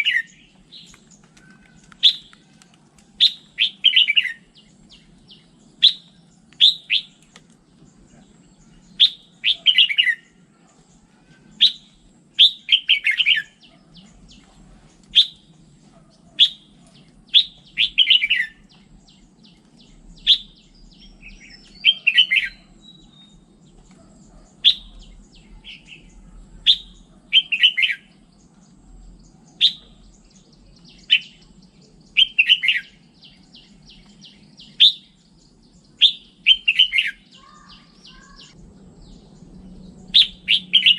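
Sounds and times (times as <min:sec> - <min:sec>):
bird singing warbled phrases: 0:00.0 - 0:02.6, 0:03.2 - 0:40.9.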